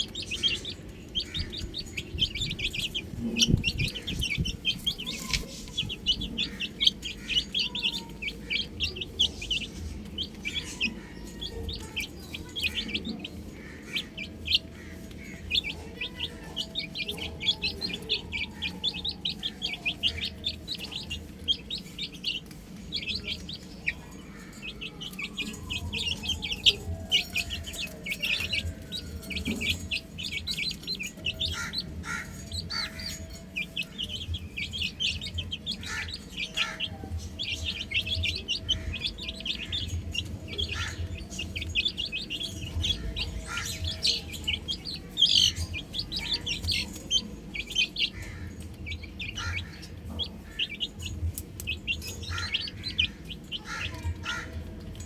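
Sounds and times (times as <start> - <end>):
baby chicks chirping: 0.0 - 55.0.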